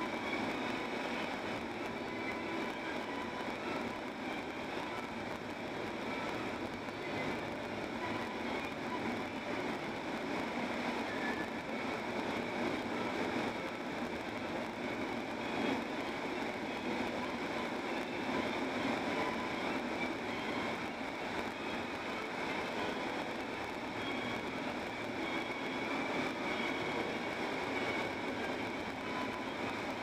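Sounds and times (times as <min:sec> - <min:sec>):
car road and tyre noise: 0:00.0 - 0:30.0.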